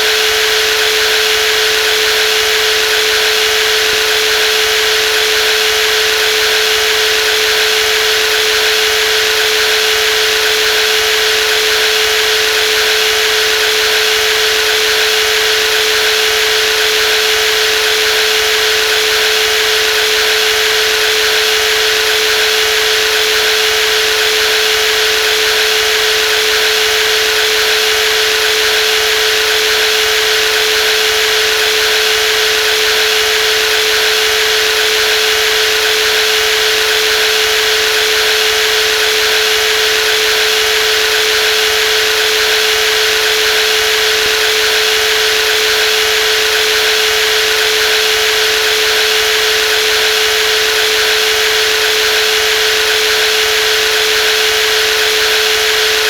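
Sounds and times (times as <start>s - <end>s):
jigsaw motor whining: 0.0s - 56.0s.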